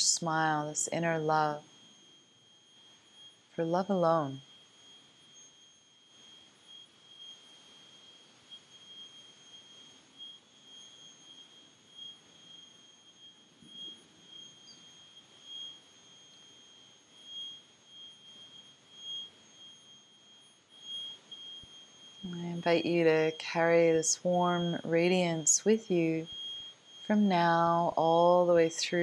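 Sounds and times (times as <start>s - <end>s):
faint high-pitched tone: 0.0s - 29.0s
room hiss: 0.0s - 29.0s.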